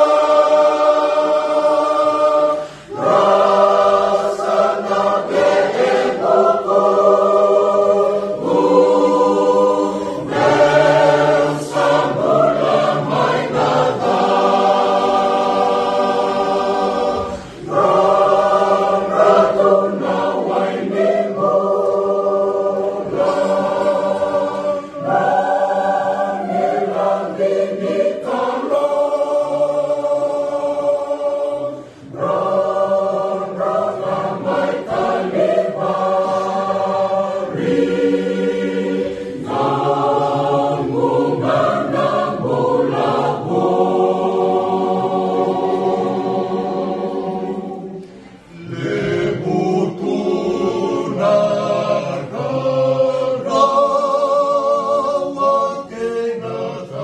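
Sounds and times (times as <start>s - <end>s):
mixed choir singing unaccompanied: 0.0s - 57.0s.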